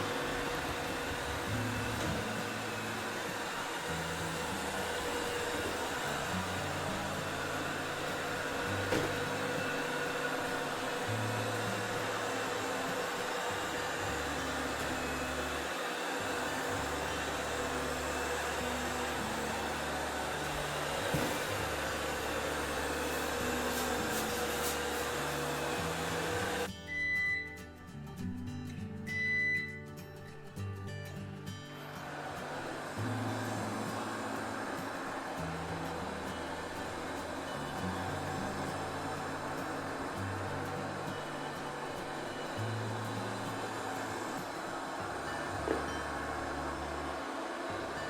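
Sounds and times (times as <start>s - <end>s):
robot vacuum cleaner running: 0.0s - 27.5s, 31.7s - 48.0s.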